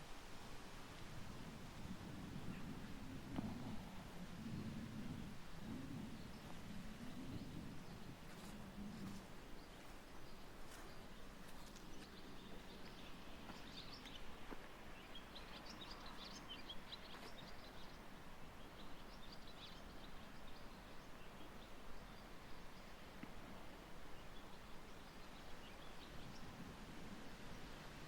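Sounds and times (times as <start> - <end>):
quiet outdoor background noise: 0.0 - 28.0
small birds chirping: 2.0 - 28.0.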